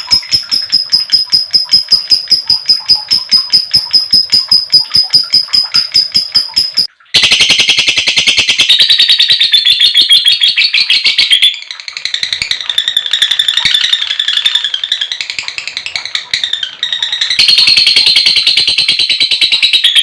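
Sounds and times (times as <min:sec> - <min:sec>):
lovebird chattering call: 0:00.0 - 0:20.0.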